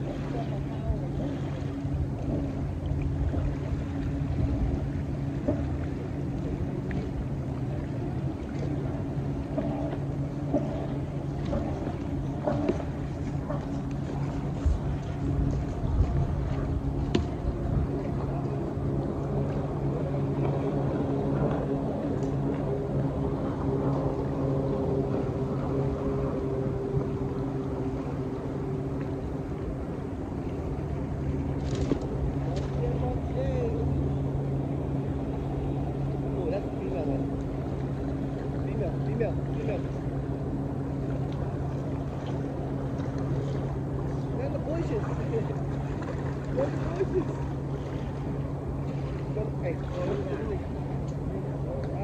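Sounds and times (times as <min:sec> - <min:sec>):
low motor hum: 0:00.0 - 0:52.0
waves lapping at shore: 0:00.0 - 0:52.0.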